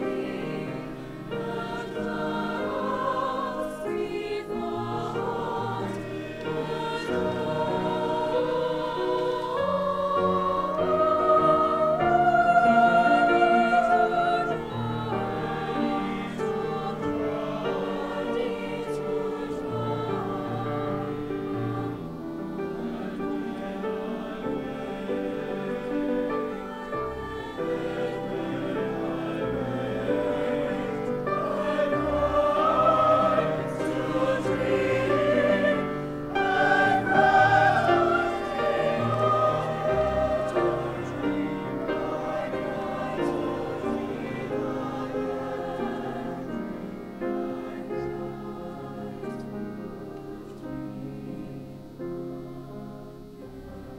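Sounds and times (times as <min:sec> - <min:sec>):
mixed choir singing in harmony: 0:00.0 - 0:53.9.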